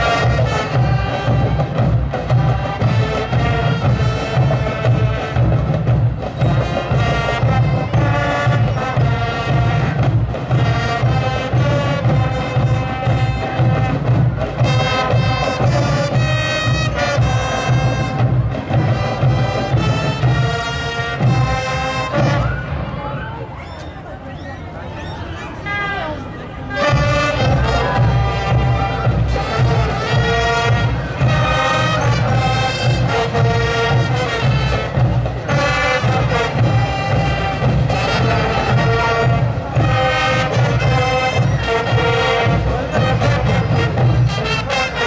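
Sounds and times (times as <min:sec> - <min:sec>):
bass drums and percussion: 0:00.0 - 0:22.8, 0:26.8 - 0:45.0
brass instruments playing: 0:00.0 - 0:23.4, 0:25.7 - 0:45.0.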